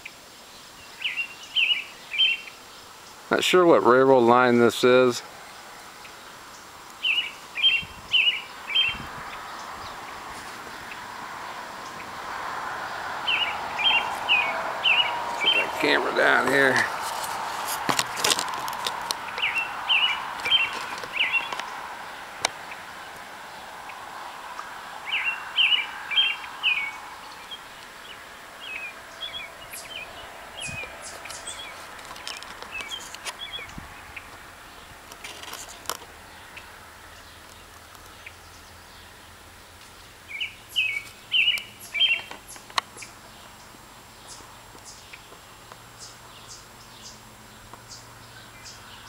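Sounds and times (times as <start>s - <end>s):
songbird chirping: 0.0s - 49.0s
steady outdoor hiss: 0.0s - 49.0s.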